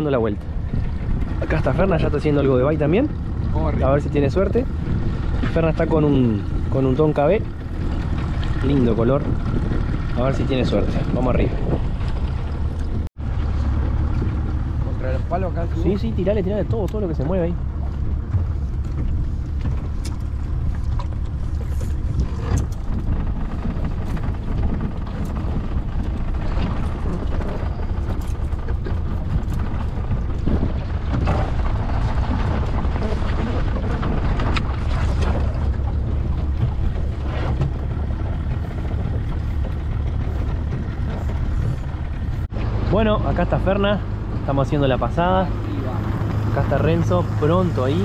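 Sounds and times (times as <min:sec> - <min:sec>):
choppy river water: 0:00.0 - 0:48.0
wind buffeting microphone: 0:00.0 - 0:48.0.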